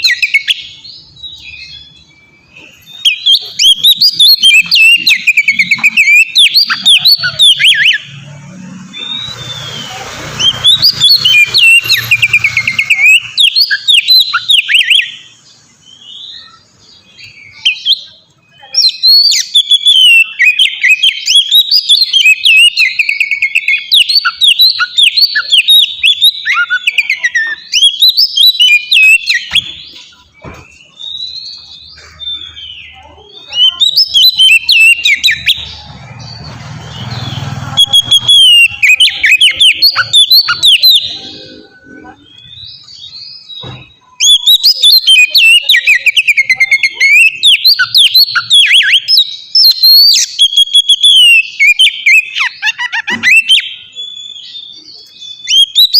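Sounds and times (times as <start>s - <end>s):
bird singing whistled song: 0.0s - 8.2s, 8.9s - 55.9s.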